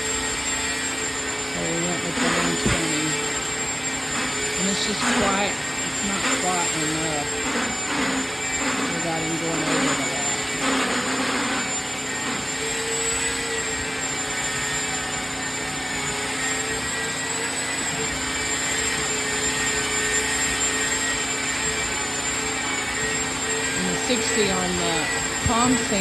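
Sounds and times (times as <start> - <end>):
belt sander on wood: 0.0 - 26.0.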